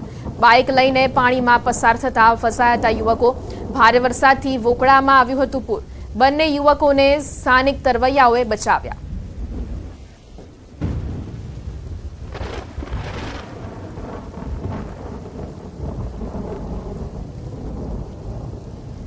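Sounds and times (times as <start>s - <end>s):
storm and floodwater rumbling hiss: 0.0s - 19.0s.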